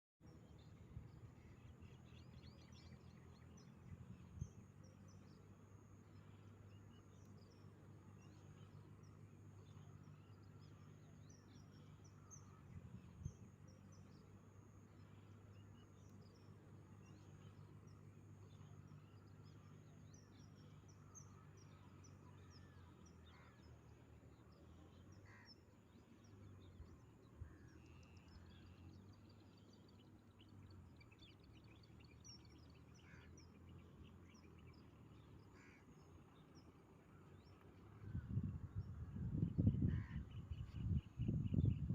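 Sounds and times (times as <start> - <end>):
low steady hum: 0.2 - 41.9
small birds chirping: 0.2 - 41.9.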